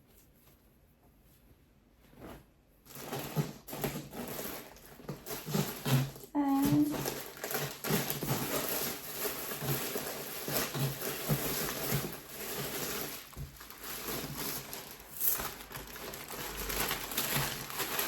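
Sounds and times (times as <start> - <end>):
plastic packaging rustling: 2.2 - 18.0.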